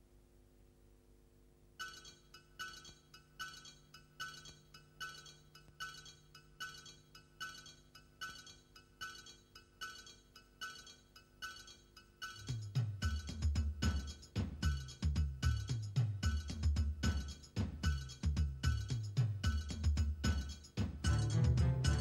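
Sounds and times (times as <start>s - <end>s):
rhythmic metallic clinks: 1.8s - 22.0s.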